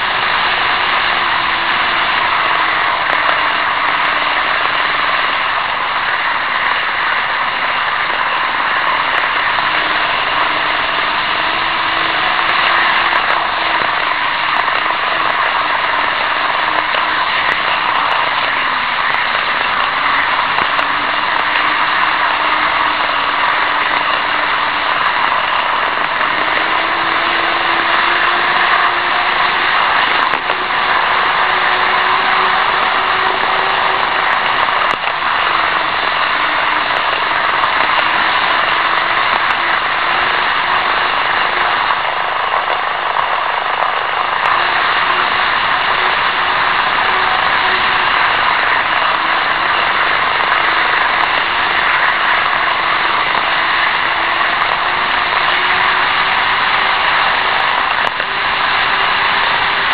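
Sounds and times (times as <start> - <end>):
small motor hum: 0.0 - 59.9
small wheels rattling on rails: 0.0 - 59.9.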